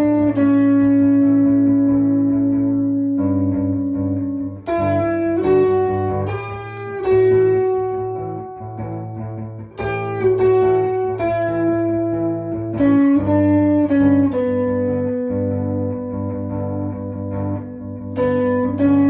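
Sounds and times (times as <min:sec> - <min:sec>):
electric guitar lead notes: 0:00.0 - 0:19.0
looped background guitar: 0:00.0 - 0:19.0.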